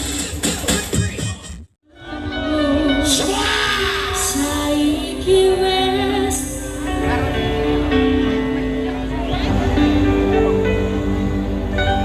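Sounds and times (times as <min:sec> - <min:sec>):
pop music with singer: 0:00.0 - 0:12.0.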